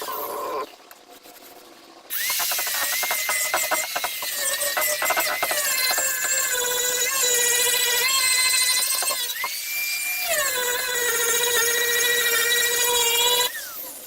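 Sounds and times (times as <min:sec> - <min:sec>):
power grinder whining: 0:02.1 - 0:13.9.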